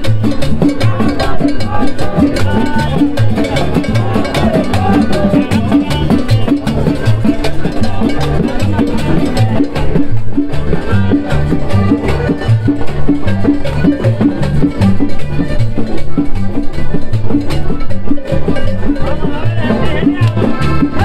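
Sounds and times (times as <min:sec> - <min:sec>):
live latin dance band: 0:00.0 - 0:21.0.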